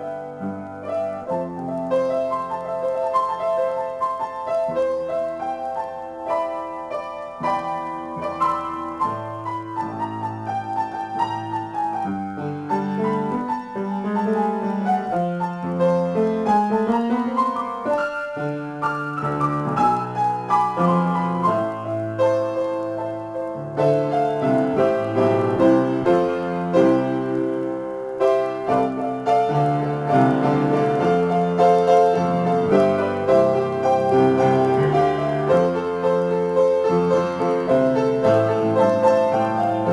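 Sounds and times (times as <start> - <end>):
solo piano: 0.0 - 39.9.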